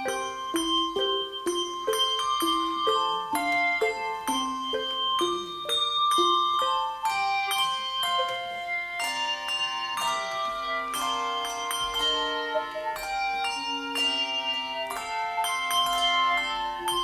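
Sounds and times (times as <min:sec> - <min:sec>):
handbell choir playing: 0:00.0 - 0:17.0.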